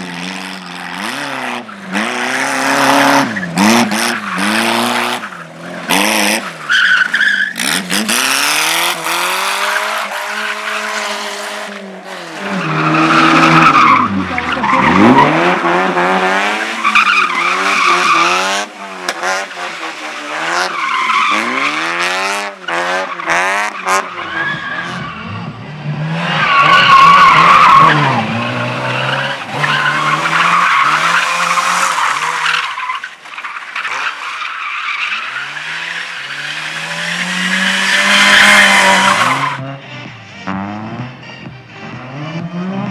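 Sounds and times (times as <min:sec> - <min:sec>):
race car engine revving: 0:00.0 - 0:33.0, 0:33.8 - 0:41.2.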